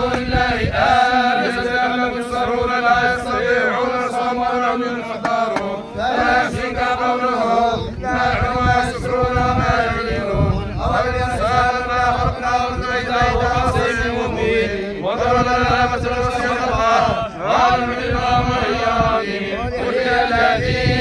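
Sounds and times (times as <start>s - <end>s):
crowd of men chanting prayers: 0.0s - 21.0s.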